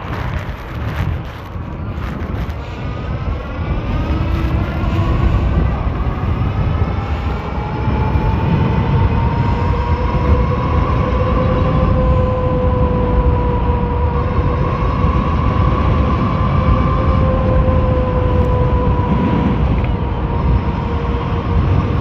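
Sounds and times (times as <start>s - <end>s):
electric bike motor whine: 0.0s - 22.0s
wind buffeting microphone: 0.0s - 22.0s.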